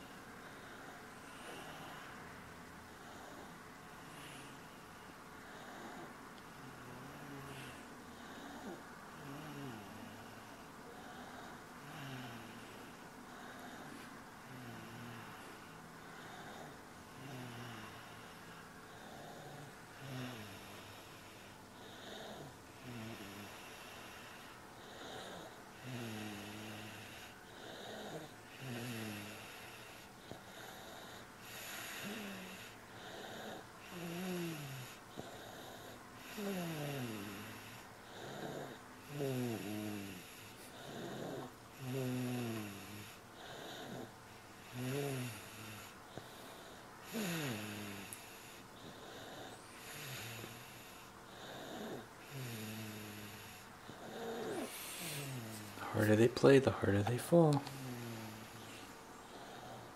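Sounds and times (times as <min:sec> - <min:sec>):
person snoring: 0:05.6 - 0:12.9, 0:16.2 - 0:21.2, 0:21.8 - 0:59.9.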